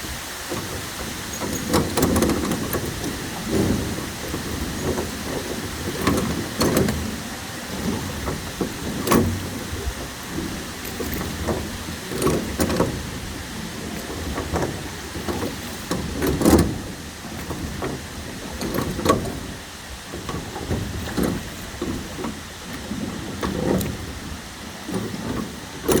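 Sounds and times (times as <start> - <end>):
rowboat knocks and bumps: 0.0 - 26.0.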